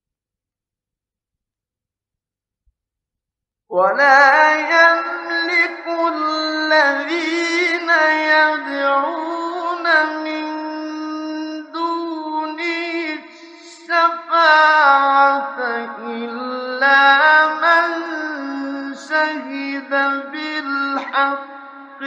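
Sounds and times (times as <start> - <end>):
man reciting melodically: 3.7 - 22.0.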